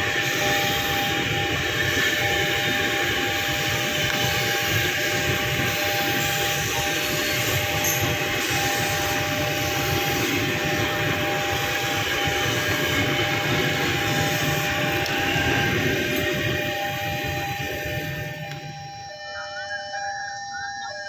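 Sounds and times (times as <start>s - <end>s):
train wheels rumbling over rail: 0.0s - 18.9s
humming tones: 0.0s - 21.0s.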